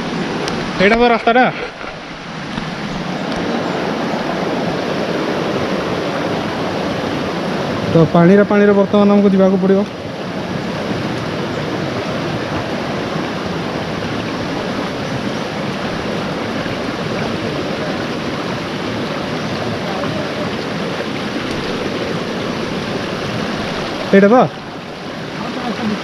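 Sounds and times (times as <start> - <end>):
forest stream rushing: 0.0 - 26.0.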